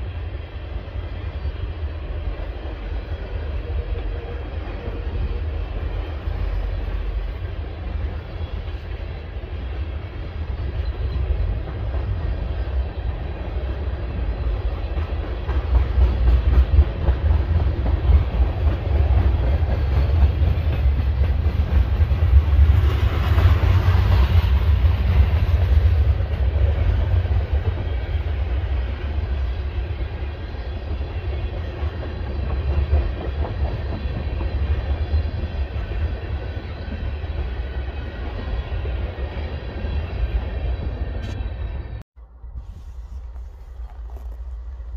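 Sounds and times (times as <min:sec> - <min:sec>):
freight train wheels rumbling on track: 0:00.0 - 0:44.9.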